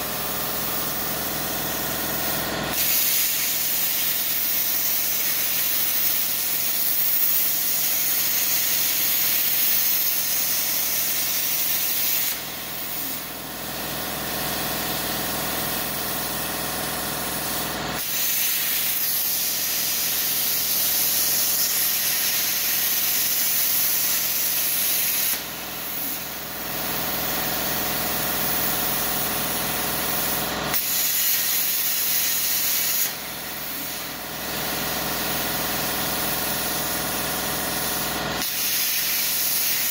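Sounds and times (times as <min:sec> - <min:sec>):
plasma cutter hissing: 0:00.0 - 0:39.9.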